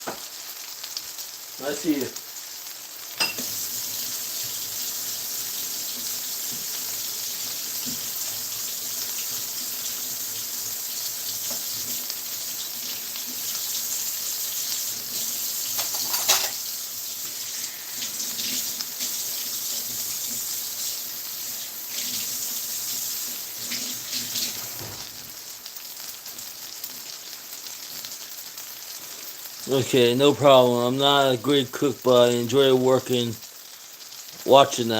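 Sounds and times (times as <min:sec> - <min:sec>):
pancakes sizzling in a pan: 0:00.0 - 0:34.9.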